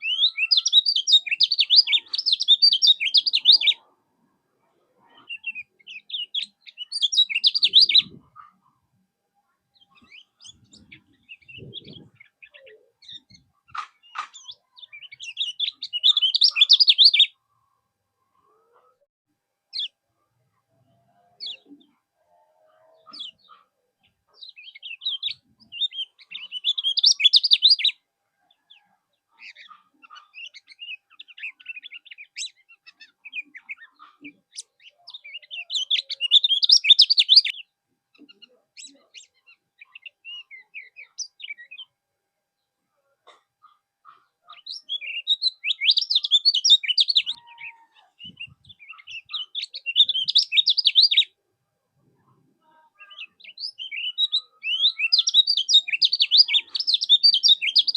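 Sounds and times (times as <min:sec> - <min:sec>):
bird twittering song: 0:00.0 - 0:03.9, 0:05.0 - 0:08.8, 0:09.8 - 0:17.4, 0:22.8 - 0:41.9, 0:44.0 - 0:51.4, 0:53.0 - 0:57.9.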